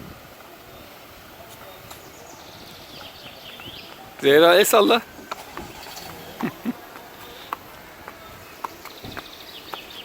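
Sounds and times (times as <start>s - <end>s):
horse hooves walking: 1.4s - 10.0s.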